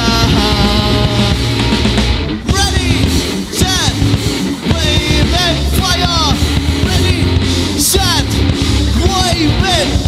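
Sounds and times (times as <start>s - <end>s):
punk rock band playing: 0.0s - 10.0s.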